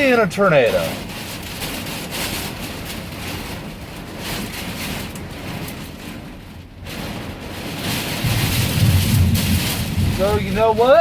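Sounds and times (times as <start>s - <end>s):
gusting wind: 0.0s - 11.0s
heavy storm rain: 0.0s - 11.0s.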